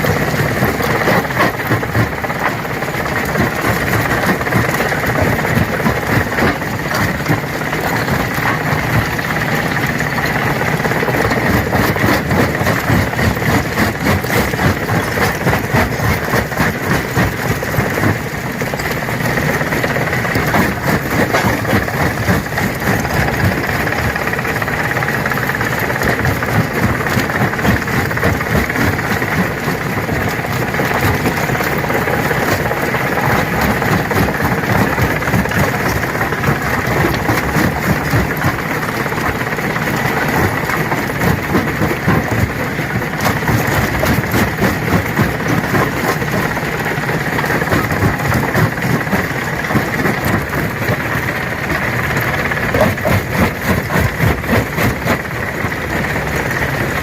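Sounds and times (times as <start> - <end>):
stone crusher machine drone: 0.0 - 57.0.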